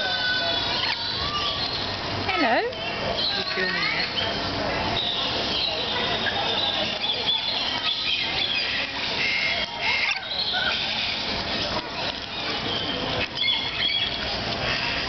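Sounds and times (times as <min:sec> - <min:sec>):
lorikeets chattering and squawking: 0:00.0 - 0:15.0.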